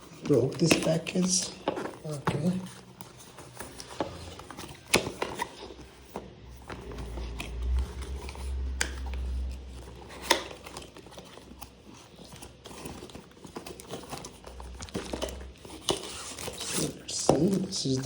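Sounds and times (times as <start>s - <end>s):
cardboard and plastic clicking: 0.0s - 18.0s.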